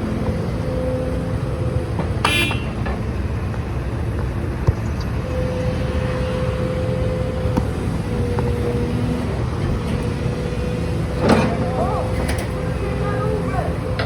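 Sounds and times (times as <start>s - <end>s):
engines rumbling: 0.0s - 14.0s
held whine: 0.0s - 14.0s.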